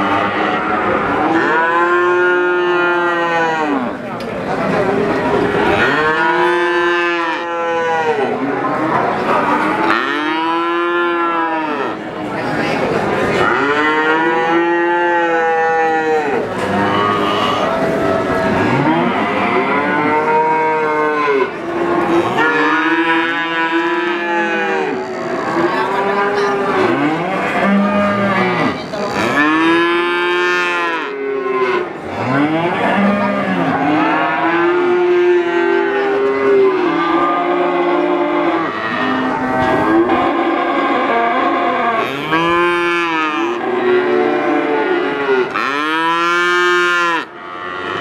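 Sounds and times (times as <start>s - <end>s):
calves mooing: 0.0s - 3.9s, 5.3s - 12.0s, 13.3s - 48.0s.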